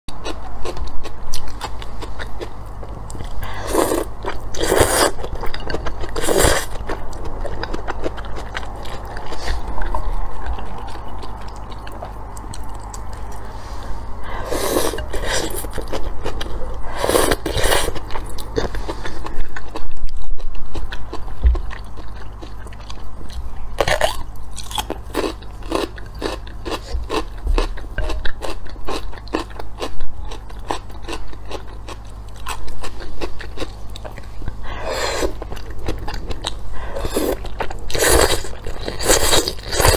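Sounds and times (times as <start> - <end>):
crunchy chewing: 0.1 - 39.9.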